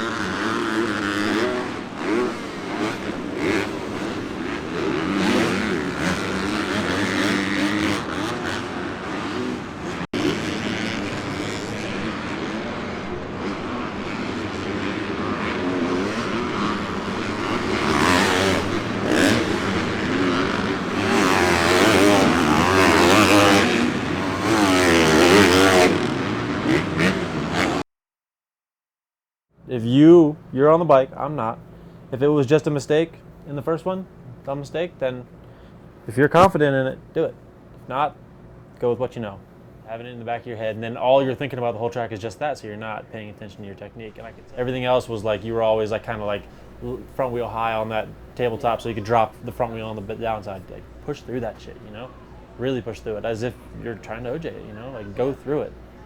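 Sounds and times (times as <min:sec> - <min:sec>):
motocross bike engines revving: 0:00.0 - 0:27.8, 0:29.7 - 0:38.2, 0:38.8 - 0:56.0.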